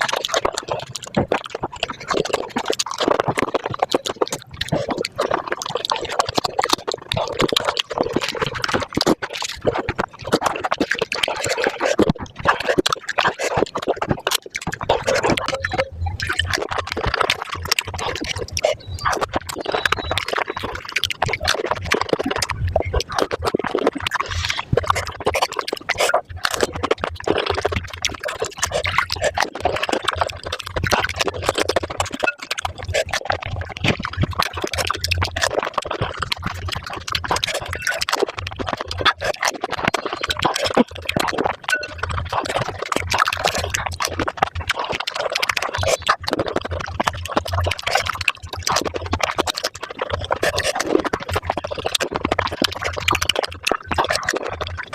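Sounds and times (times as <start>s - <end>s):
crisp food crunching: 0.0s - 54.9s
water slurping: 0.0s - 54.9s.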